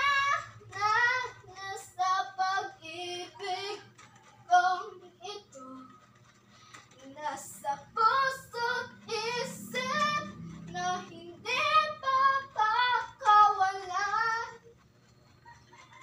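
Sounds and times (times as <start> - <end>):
girl singing: 0.0 - 6.0, 7.0 - 14.7.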